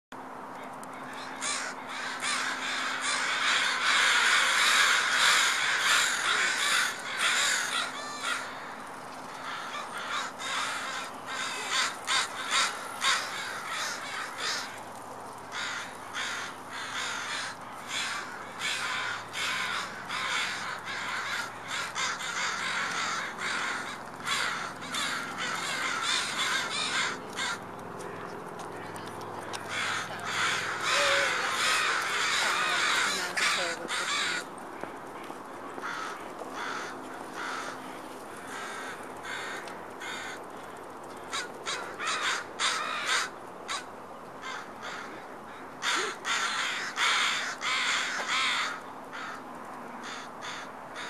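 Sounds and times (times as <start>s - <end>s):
crows cawing: 1.0s - 51.0s.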